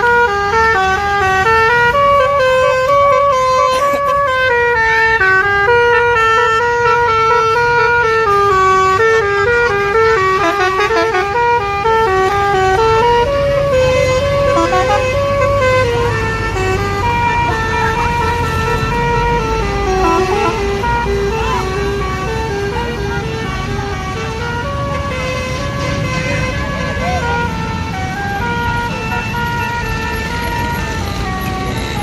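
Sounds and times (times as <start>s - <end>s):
multi-tone bus horn playing a tune: 0.0s - 32.0s.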